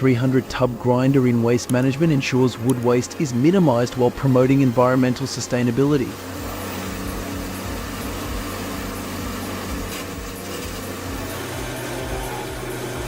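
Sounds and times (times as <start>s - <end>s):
tub grinder engine drone: 0.0s - 13.0s.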